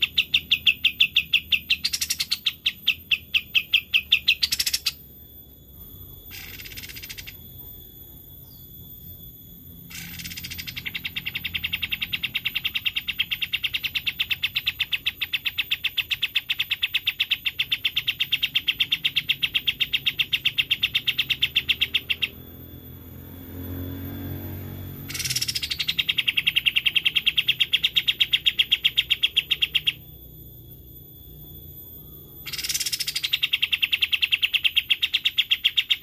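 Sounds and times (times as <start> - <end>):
songbird trilling: 0.0 - 36.0.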